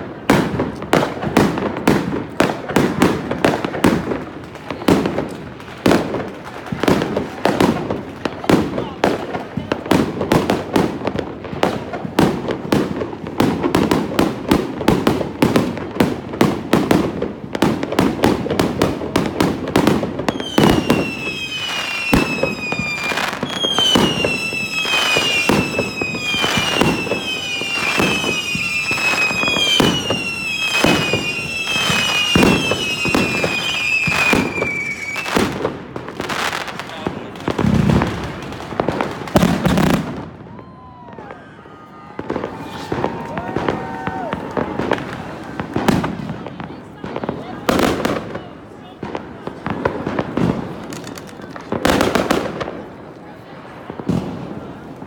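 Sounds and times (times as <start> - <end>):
fireworks crackling bangs: 0.0 - 55.0
whistling fireworks: 0.0 - 55.0.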